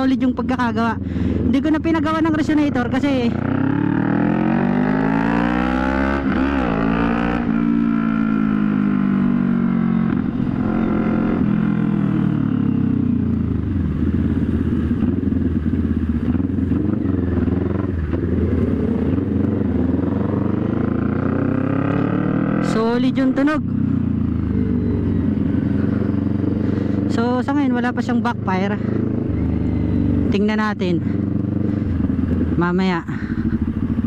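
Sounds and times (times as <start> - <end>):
loud motorcycle engine revving: 1.2 - 34.0.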